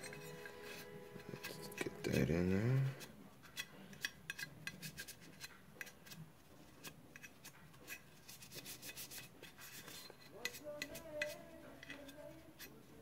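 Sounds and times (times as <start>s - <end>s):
metal gun parts clicking and rubbing: 0.0s - 2.2s, 3.4s - 12.8s.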